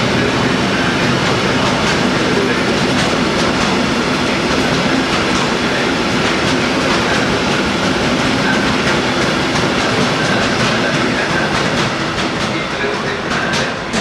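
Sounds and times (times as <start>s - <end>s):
train wheels rumbling on rails: 0.0s - 14.0s
wheels clacking over rail joints: 0.0s - 14.0s.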